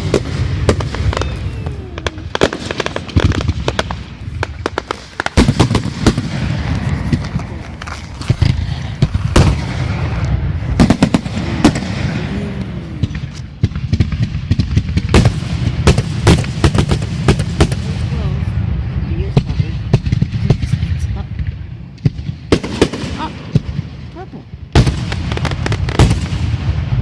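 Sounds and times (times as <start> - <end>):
continuous low rumble: 0.0 - 27.0
fireworks bangs and crackling: 0.0 - 27.0
fireworks booms: 0.0 - 27.0.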